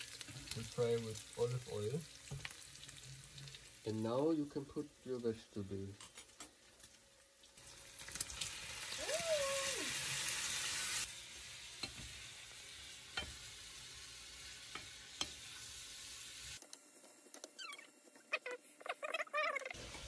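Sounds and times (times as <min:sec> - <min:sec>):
vegetables sizzling in a frying pan: 0:00.0 - 0:17.6, 0:19.8 - 0:20.0.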